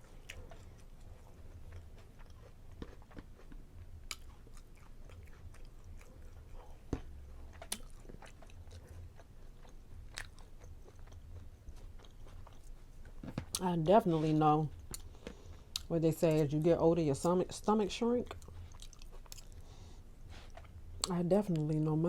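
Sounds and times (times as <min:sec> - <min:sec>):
person chewing food: 0:00.0 - 0:13.6, 0:14.7 - 0:15.9, 0:18.2 - 0:21.1.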